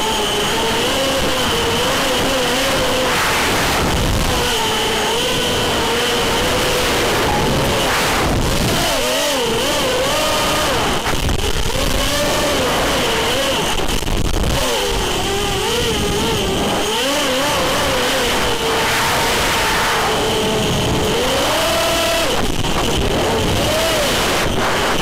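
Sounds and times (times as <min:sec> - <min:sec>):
quadcopter motors whining: 0:00.0 - 0:25.0
wind rushing over microphone: 0:00.0 - 0:25.0.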